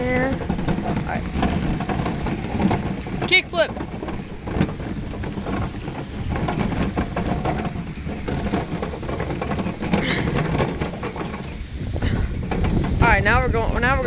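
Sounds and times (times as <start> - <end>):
skateboard wheels rolling on pavement: 0.0 - 14.0.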